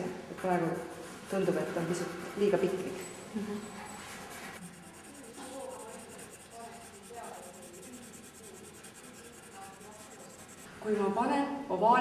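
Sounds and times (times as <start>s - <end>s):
pencil scratching on paper: 0.4s - 10.8s.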